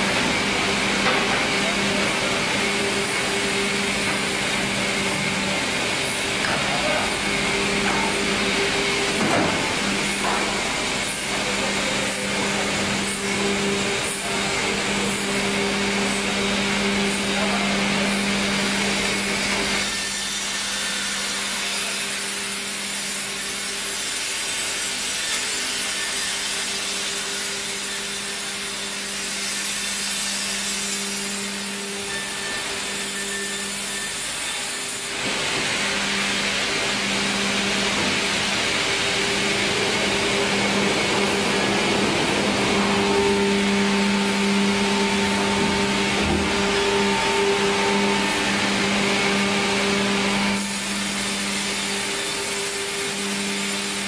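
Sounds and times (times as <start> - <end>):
electric motors humming: 0.0 - 54.0.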